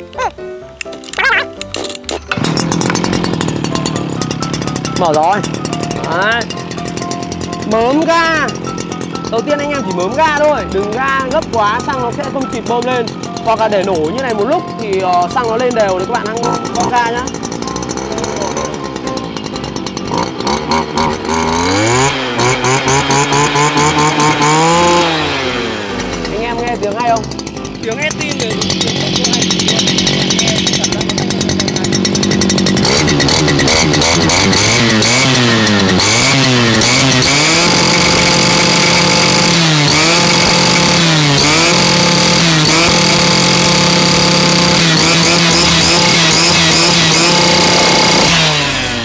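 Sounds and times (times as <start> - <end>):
brush cutter engine running: 0.0 - 49.0.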